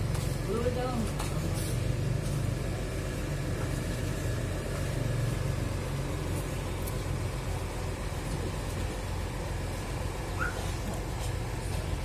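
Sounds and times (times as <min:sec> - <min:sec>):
diesel coach engines idling: 0:00.0 - 0:12.0.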